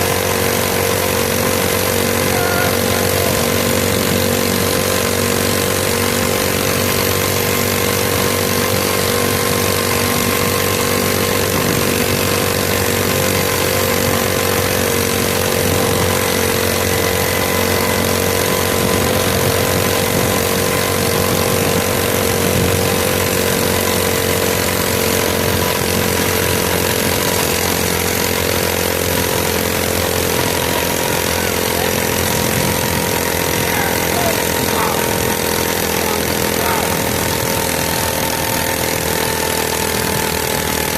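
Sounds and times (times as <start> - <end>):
small motorbike engine running: 0.0 - 40.9.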